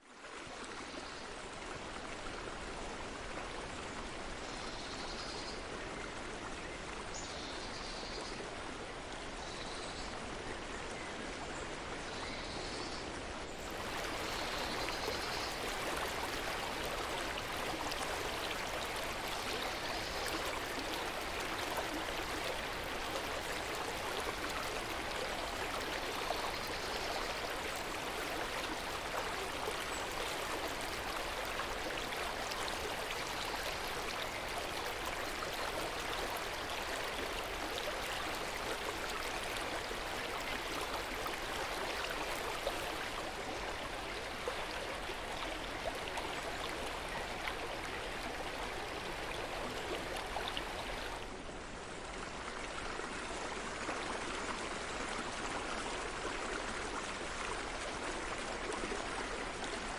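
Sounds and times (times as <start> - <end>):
river water flowing over rocks: 5.2 - 59.9.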